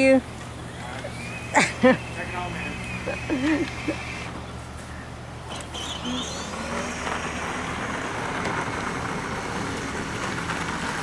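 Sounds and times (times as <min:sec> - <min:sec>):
vehicle hiss: 0:00.6 - 0:10.8.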